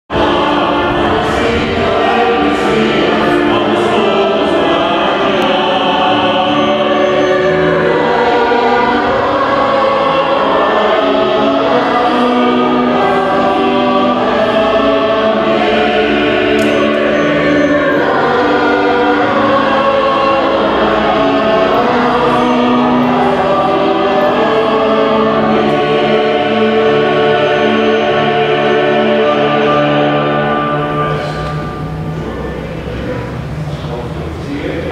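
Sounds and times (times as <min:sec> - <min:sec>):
gospel choir singing: 0:00.1 - 0:34.9.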